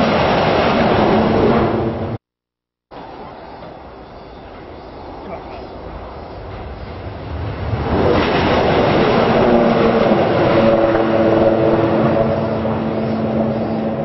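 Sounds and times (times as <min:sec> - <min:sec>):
train passing at high speed: 0:00.0 - 0:02.2, 0:02.9 - 0:14.0.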